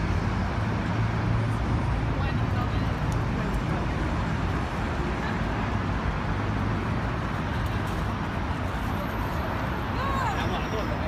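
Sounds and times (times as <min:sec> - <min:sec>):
busy street traffic rumble: 0:00.0 - 0:11.0.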